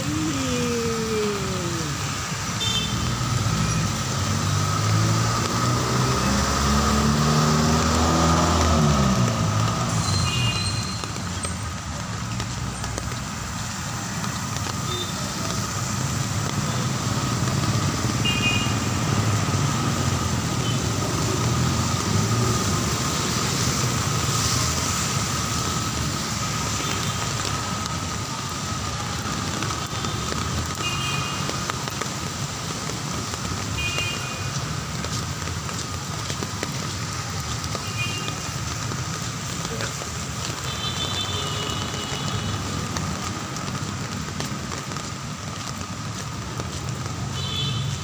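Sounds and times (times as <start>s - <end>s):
heavy rain falling: 0.0s - 48.0s
vehicles passing on wet road: 0.0s - 48.0s.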